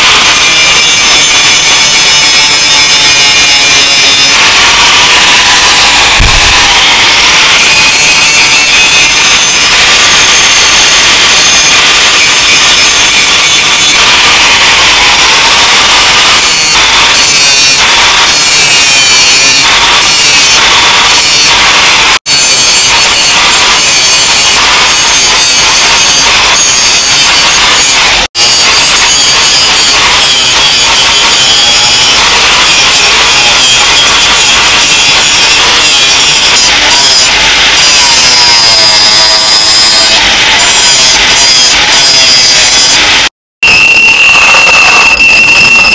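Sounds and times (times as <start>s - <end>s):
angle grinder grinding steel: 0.0s - 45.9s.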